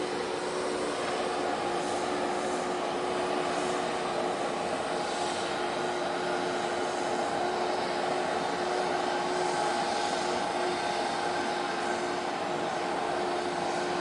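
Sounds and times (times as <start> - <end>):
ship machinery drone: 0.0 - 14.0.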